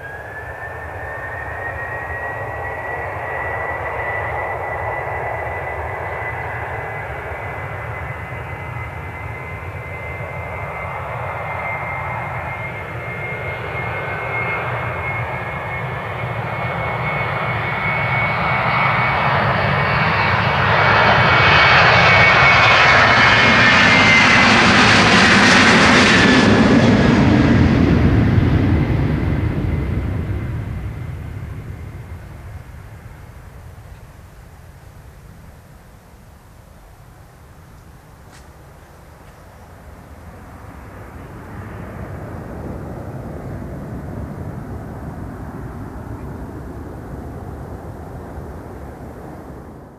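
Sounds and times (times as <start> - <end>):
jet engine whine and rumble: 0.0 - 49.9.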